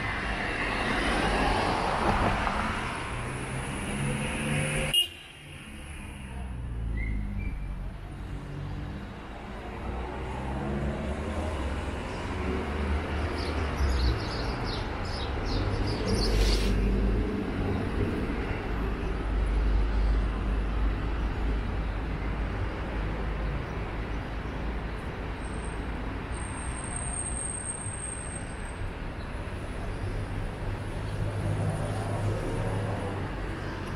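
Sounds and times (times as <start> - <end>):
road traffic rumble: 0.0 - 33.9.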